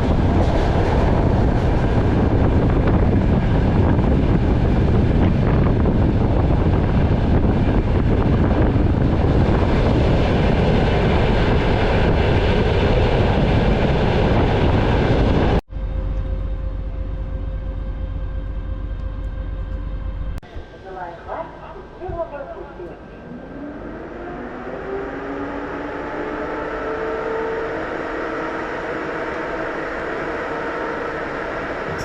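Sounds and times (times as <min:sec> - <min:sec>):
train wheels rumbling on rails: 0:00.0 - 0:21.0, 0:23.8 - 0:32.0.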